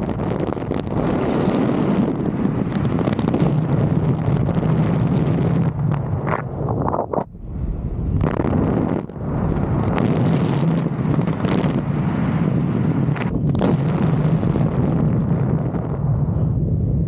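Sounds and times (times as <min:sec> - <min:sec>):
low rumble: 0:00.0 - 0:17.0
wind buffeting microphone: 0:00.0 - 0:17.0.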